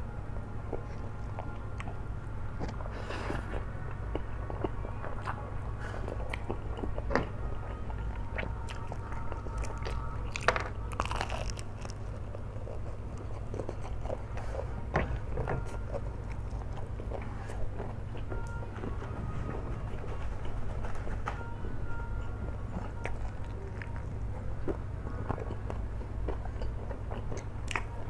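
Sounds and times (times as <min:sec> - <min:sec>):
steady low hum: 0:00.0 - 0:28.0
person chewing noodles: 0:00.7 - 0:28.0.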